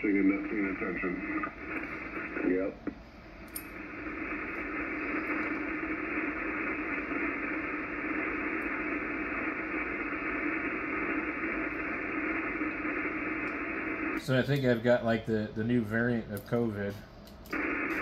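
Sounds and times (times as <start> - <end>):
radio receiver hiss and static: 0.0 - 18.0.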